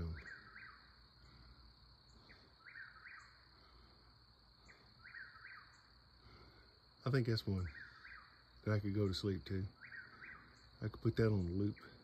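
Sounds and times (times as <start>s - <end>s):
faint bird call: 0.0s - 6.7s, 7.4s - 12.0s.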